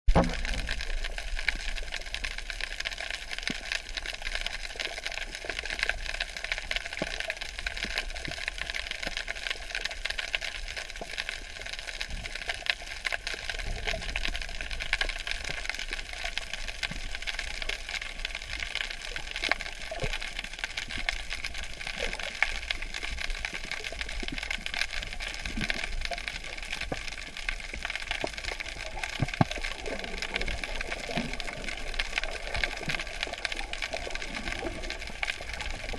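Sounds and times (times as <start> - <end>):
crackle of faint clicks: 0.1 - 35.9.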